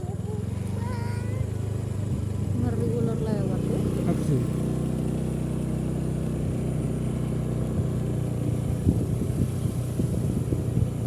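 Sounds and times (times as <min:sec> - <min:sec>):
small motorcycle engine idling: 0:00.0 - 0:11.0.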